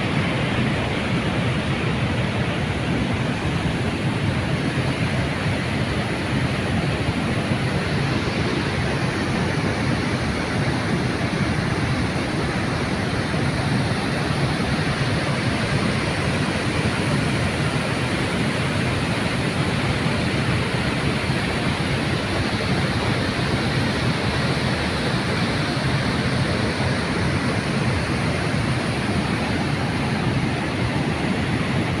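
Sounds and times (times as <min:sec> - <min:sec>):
water rushing over a weir: 0:00.0 - 0:32.0.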